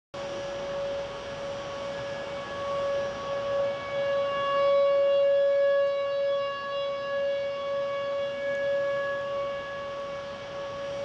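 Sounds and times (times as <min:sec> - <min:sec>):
warning siren steady tone: 0:00.2 - 0:11.0.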